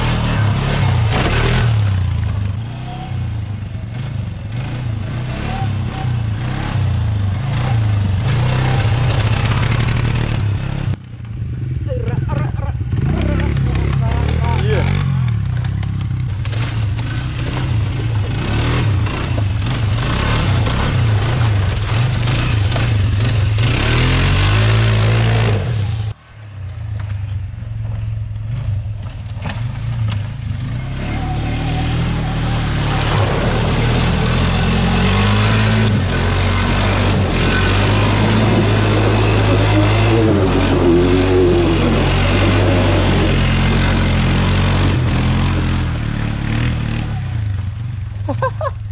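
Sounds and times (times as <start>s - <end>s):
pit bike engines revving: 0.0s - 26.2s, 28.4s - 48.9s.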